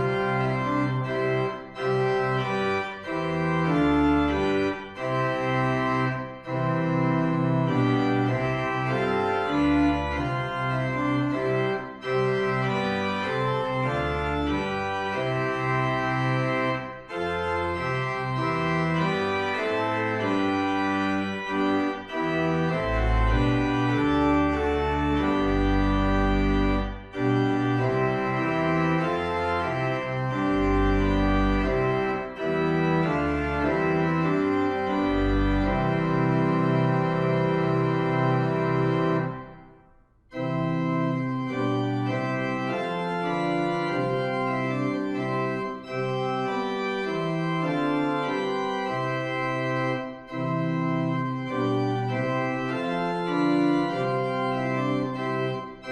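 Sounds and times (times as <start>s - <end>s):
deep organ pedal bass notes: 0.0s - 39.7s, 40.3s - 55.9s
organ playing hymn chords: 0.0s - 55.9s.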